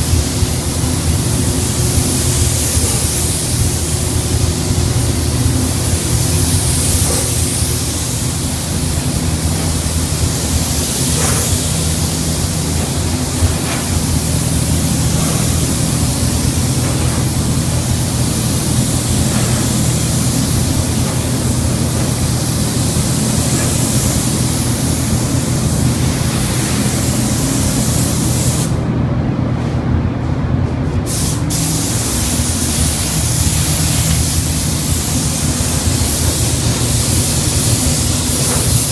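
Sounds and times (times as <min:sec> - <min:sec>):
paint spray gun hissing: 0:00.0 - 0:28.8, 0:31.1 - 0:38.9
steady low hum: 0:00.0 - 0:38.9.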